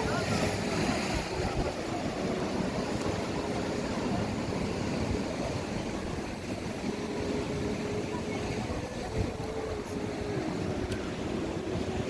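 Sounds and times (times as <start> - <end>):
sea surf: 0.0 - 12.0
wind: 0.0 - 12.0.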